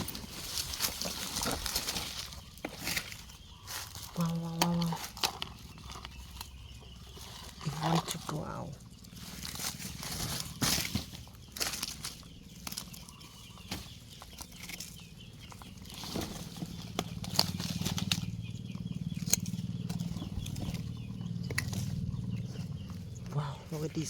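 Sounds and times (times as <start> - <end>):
rustling and scraping of wood: 0.0 - 24.0.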